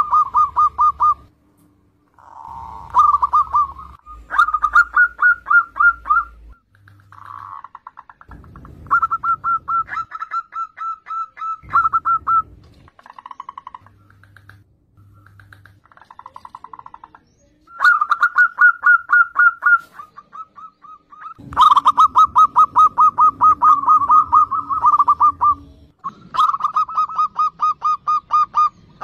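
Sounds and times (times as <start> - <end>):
dove cooing: 0.0 - 1.3, 2.1 - 16.9, 17.7 - 29.0.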